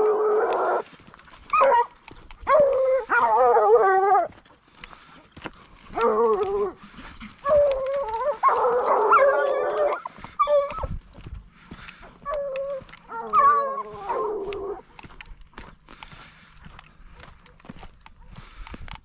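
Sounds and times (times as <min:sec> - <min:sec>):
hounds baying and howling: 0:00.0 - 0:19.0.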